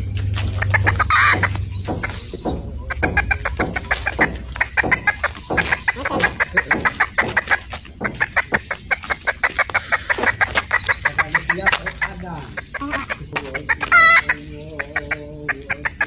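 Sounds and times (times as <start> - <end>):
rooster clucking rapidly: 0.0 - 16.0.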